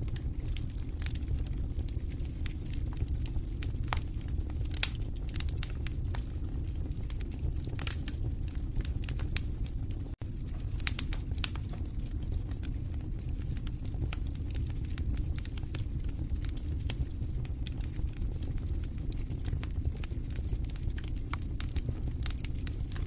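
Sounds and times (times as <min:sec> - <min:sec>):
low rumble of burning: 0:00.0 - 0:23.0
wood fire crackling and popping: 0:00.0 - 0:23.0.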